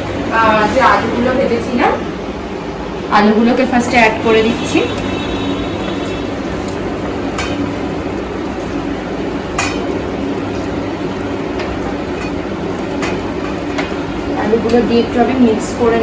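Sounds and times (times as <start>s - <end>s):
gas stove rushing: 3.2s - 16.0s.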